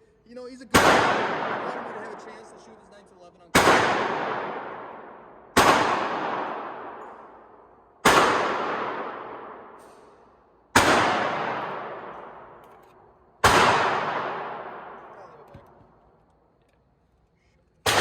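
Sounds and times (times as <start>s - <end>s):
pistol shots with echo: 0.6s - 15.8s.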